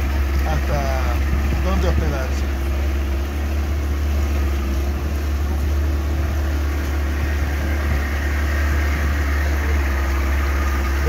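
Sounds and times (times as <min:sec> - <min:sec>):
outboard motor droning: 0:00.0 - 0:11.0
water rushing along hull: 0:00.0 - 0:11.0.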